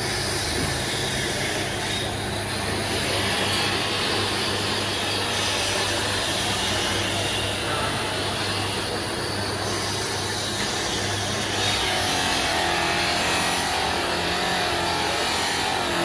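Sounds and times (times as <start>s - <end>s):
machine whir with low hum: 0.0s - 16.0s.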